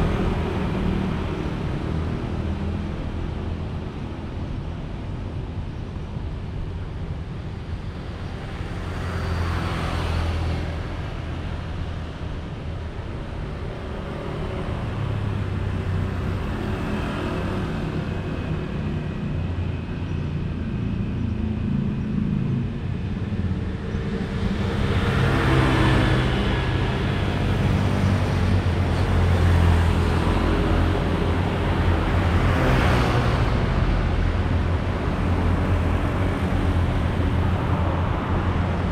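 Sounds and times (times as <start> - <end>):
road traffic rumble: 0.0 - 38.9
vehicles passing by: 0.0 - 38.9.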